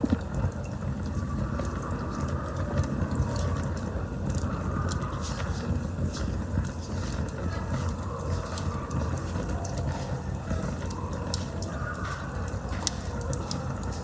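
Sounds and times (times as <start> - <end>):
burning wood crackling and popping: 0.0 - 14.0
campfire flame rumble: 0.0 - 14.0.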